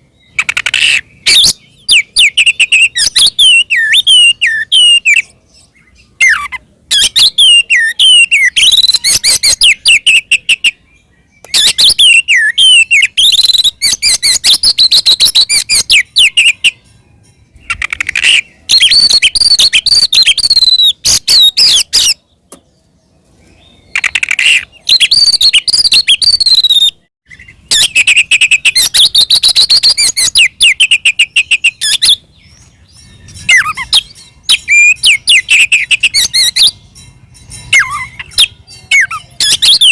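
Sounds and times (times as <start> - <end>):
bird singing chattering and whistling: 0.0 - 39.9.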